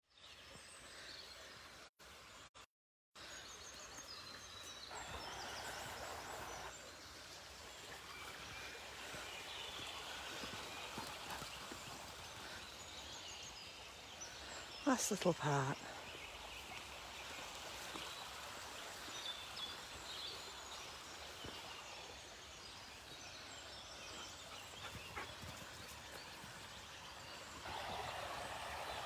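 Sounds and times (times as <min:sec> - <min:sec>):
small birds chirping: 0:03.2 - 0:29.0.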